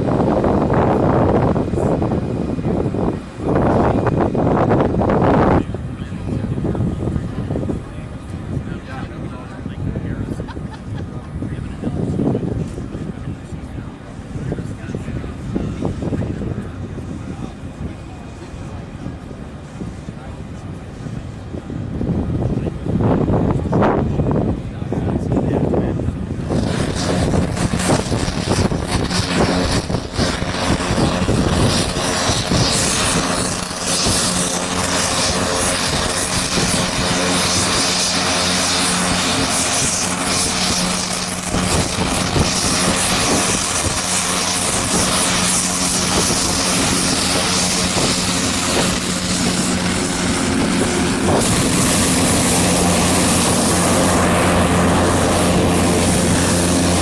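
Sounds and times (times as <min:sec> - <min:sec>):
low hum: 0:00.0 - 0:57.0
turboprop engine drone: 0:00.0 - 0:57.0.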